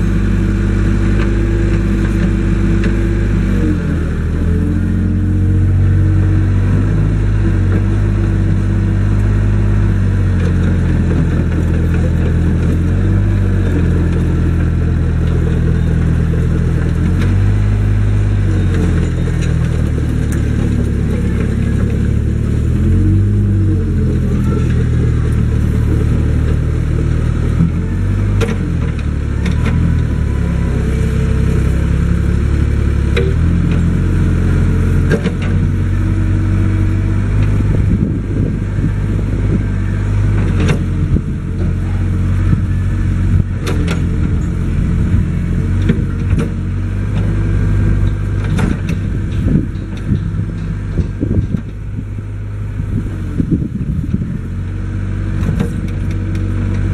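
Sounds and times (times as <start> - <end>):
excavator diesel engine working: 0.0 - 56.9.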